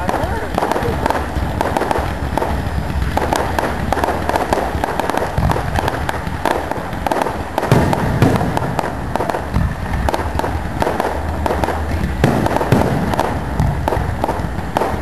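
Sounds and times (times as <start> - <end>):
firework shells booming: 0.0 - 15.0
fireworks crackling and popping: 0.0 - 15.0.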